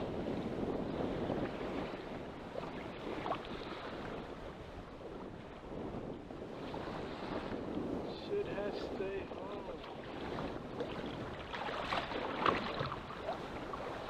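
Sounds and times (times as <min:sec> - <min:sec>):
waves sloshing around boat: 0:00.0 - 0:14.0
wind buffeting microphone: 0:00.0 - 0:14.0.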